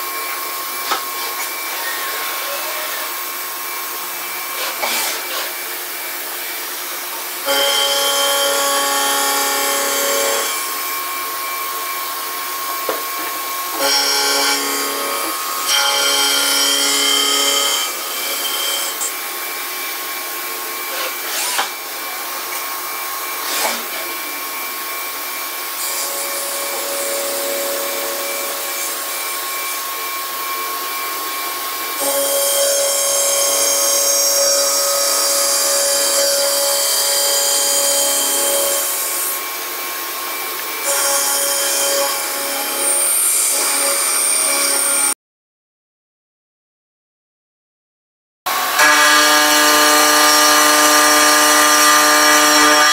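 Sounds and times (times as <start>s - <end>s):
milling machine whine: 0.0s - 45.1s.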